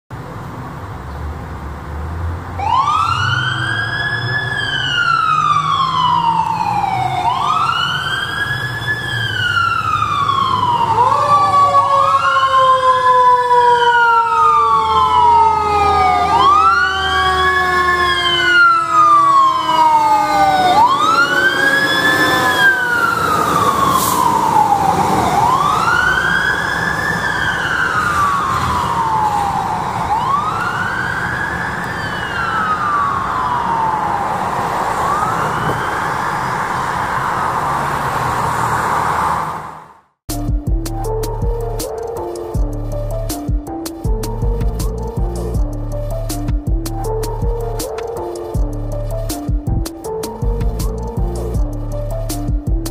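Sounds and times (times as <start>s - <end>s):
truck engine rumble: 0.1s - 52.9s
fire truck siren wailing: 2.6s - 40.2s, 40.9s - 52.9s
lower siren tone sliding down: 2.6s - 52.9s.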